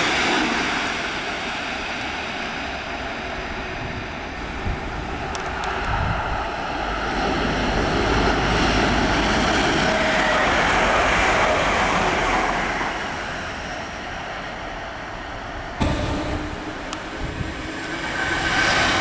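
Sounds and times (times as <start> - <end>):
diesel train passing: 0.0 - 19.0.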